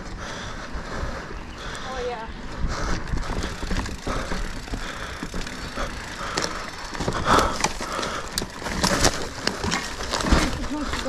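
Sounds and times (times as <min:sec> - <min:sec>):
bike rattling clicks and knocks: 0:00.0 - 0:11.0
bike tyre noise on dirt: 0:00.0 - 0:11.0.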